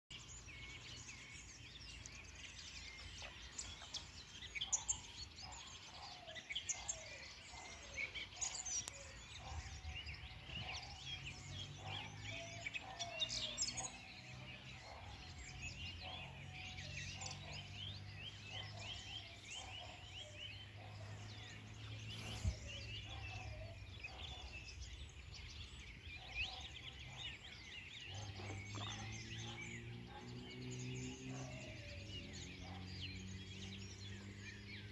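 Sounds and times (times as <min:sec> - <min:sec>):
birds chirping and singing: 0:00.1 - 0:34.9
low repeated bird calls: 0:00.1 - 0:34.9.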